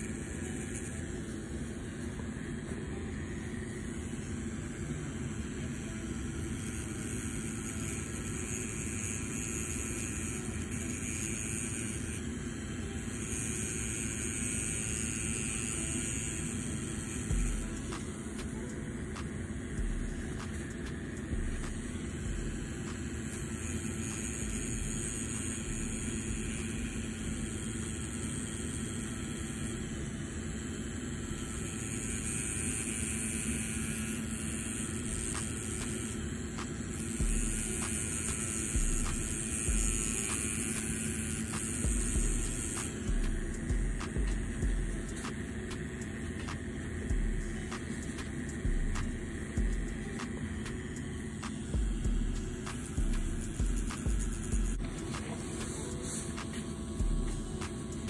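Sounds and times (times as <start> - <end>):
tattoo machine whirring: 0.0 - 58.0.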